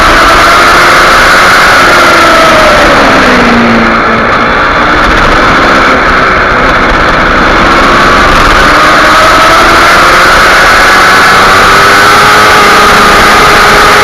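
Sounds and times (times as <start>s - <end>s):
motorcycle engine under load: 0.0s - 14.0s
wind rush on microphone: 0.0s - 14.0s.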